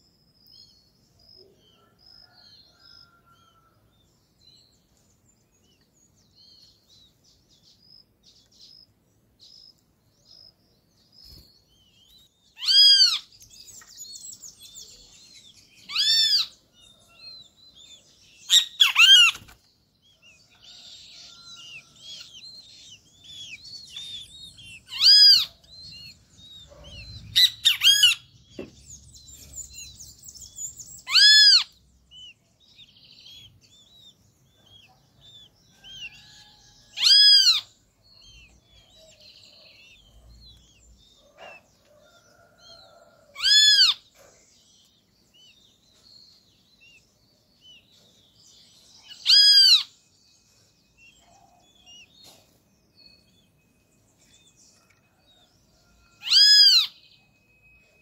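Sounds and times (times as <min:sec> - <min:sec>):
faint high chirping: 0:00.0 - 0:58.0
birds calling loud arched notes: 0:09.5 - 0:58.0.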